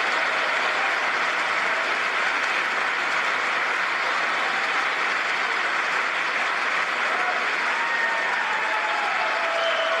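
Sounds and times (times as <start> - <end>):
large crowd clapping: 0.0 - 10.0.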